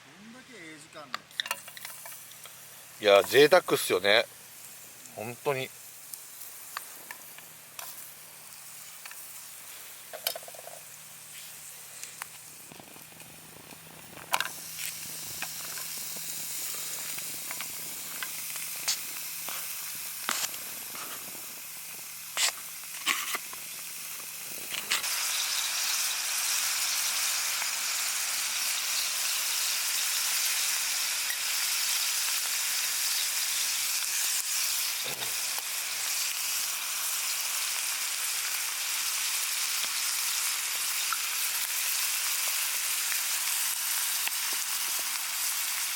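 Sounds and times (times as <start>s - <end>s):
food sizzling in a pan: 1.3s - 45.9s.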